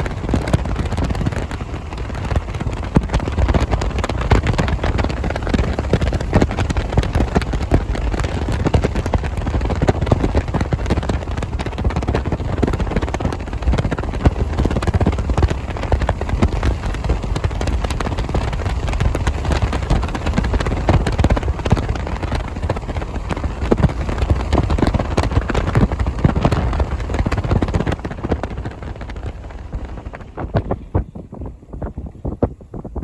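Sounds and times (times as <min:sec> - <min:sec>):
hail and rain pelting a vehicle: 0:00.0 - 0:31.4
low wind rumble: 0:00.0 - 0:33.0.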